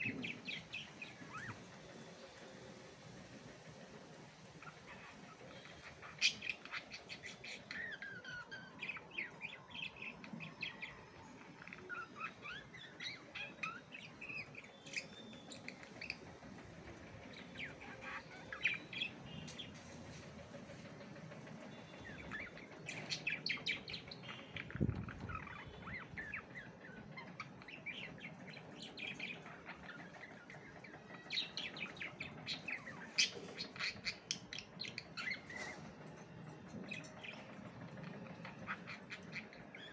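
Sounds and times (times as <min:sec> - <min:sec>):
budgerigars chirping and warbling: 0:00.0 - 0:02.2, 0:04.3 - 0:39.9.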